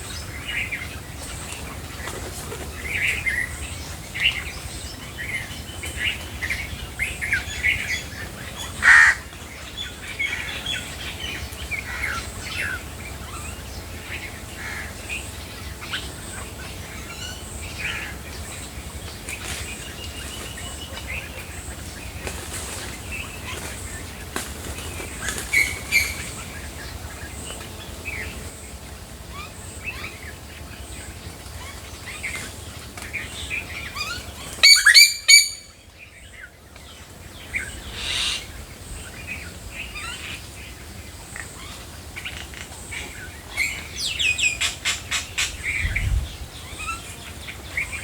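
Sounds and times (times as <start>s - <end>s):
wild birds chirping and calling: 0.0s - 48.0s.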